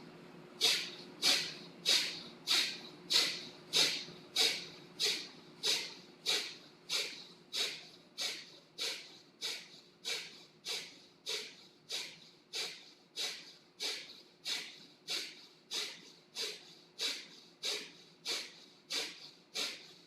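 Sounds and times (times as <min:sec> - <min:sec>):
forceful nasal exhales: 0:00.6 - 0:20.0.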